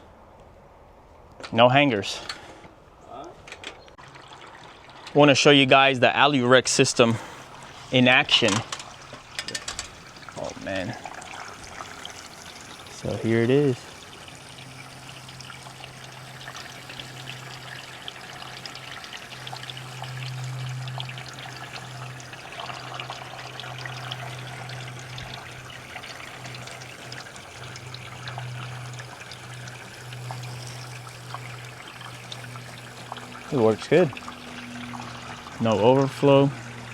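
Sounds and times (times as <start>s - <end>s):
water trickling into gutter: 3.9s - 36.9s
water splashing and dripping: 4.0s - 36.9s
steady low hum: 6.0s - 36.9s.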